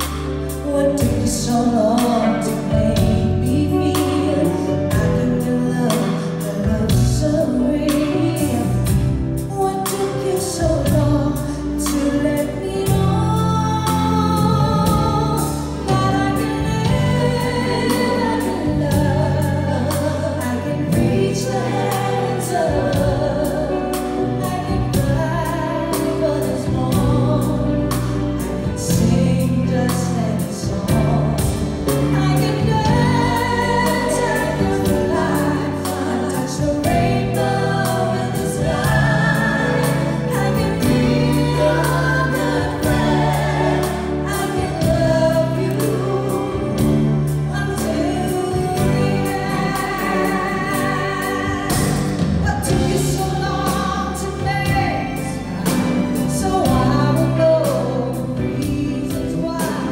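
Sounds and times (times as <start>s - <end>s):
amplified musical accompaniment: 0.0s - 59.9s
woman singing into microphone: 0.0s - 59.9s.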